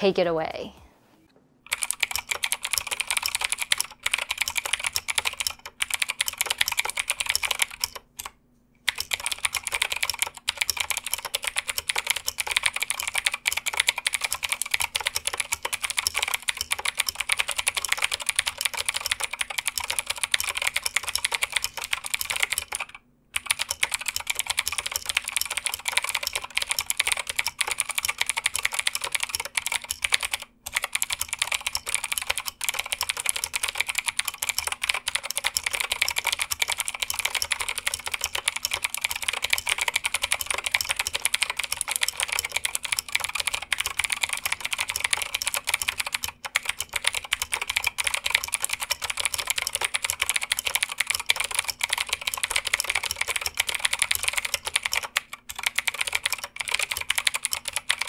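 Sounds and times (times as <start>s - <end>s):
mechanical keyboard typing: 1.7s - 58.0s.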